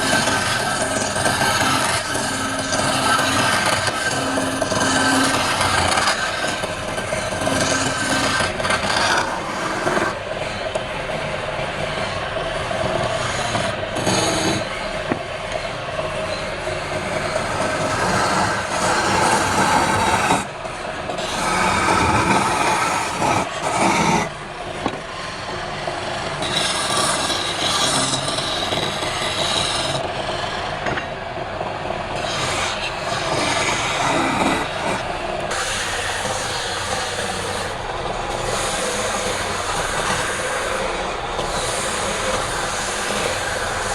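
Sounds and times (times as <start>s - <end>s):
tool rasping on lathe wood: 0.0s - 10.2s, 13.2s - 14.9s, 16.2s - 30.8s, 32.1s - 43.9s.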